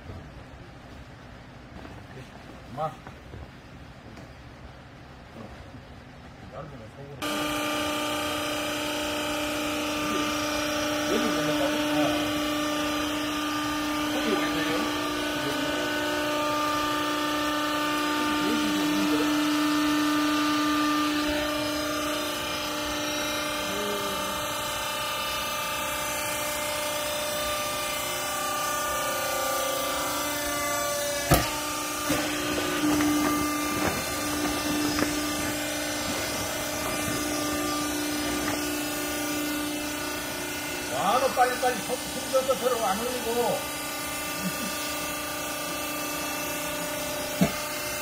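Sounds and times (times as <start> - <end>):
hydraulic pump motor humming: 7.2 - 48.0.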